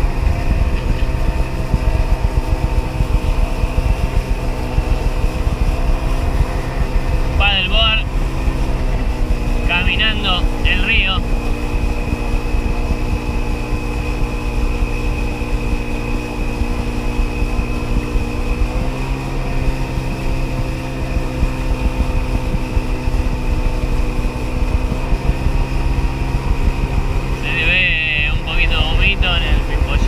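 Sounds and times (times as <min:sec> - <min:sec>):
high whine: 0:00.0 - 0:30.0
watercraft engine running: 0:00.0 - 0:30.0.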